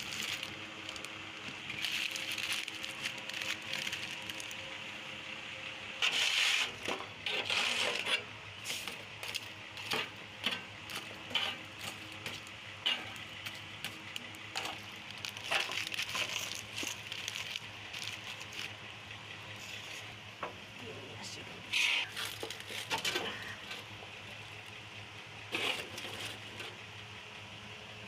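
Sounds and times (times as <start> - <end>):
crunching and scraping: 0.0 - 5.0, 6.0 - 18.9, 19.5 - 20.7, 21.7 - 24.8, 25.5 - 26.8.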